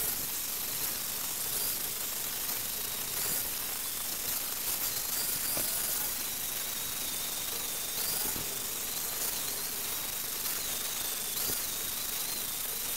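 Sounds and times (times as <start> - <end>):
angle grinder grinding metal: 0.0 - 12.9.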